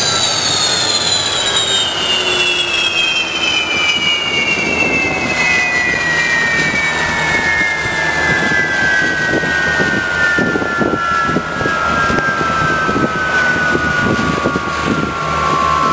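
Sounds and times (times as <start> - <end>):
turbojet spooling down: 0.0 - 15.9.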